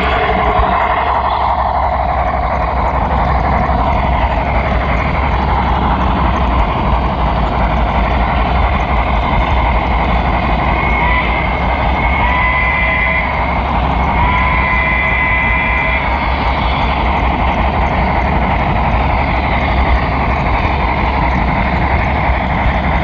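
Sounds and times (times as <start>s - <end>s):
low locomotive hum: 0.0s - 23.0s
model train wheels rolling on track: 0.0s - 23.0s.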